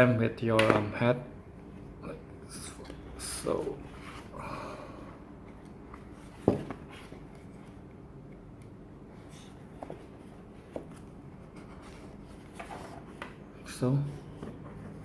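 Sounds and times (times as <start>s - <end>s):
faint room noise: 0.0s - 15.0s.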